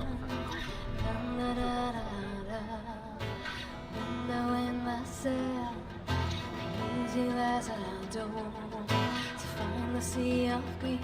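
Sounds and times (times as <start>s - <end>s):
acoustic guitar: 0.0s - 11.0s
woman singing: 0.0s - 11.0s.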